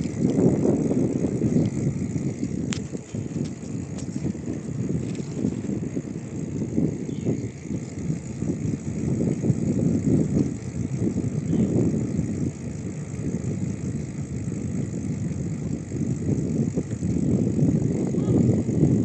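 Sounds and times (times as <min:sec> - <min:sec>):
bicycle tyres rolling on road: 0:00.0 - 0:19.0
wind buffeting microphone: 0:00.0 - 0:19.0.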